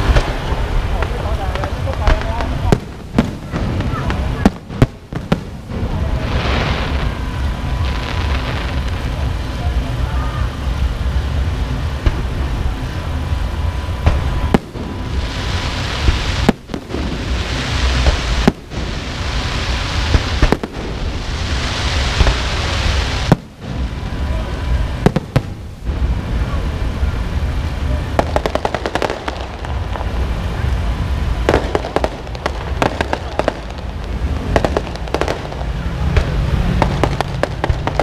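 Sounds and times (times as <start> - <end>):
fireworks bangs: 0.0 - 38.0
fireworks crackling hiss: 0.0 - 38.0.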